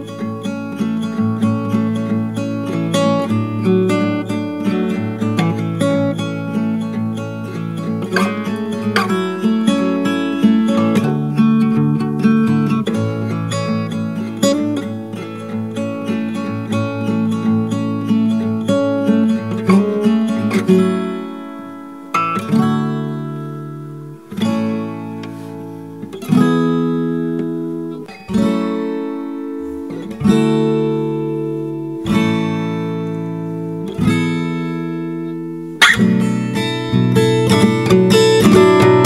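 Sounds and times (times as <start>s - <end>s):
acoustic guitar slow chords: 0.0s - 39.0s.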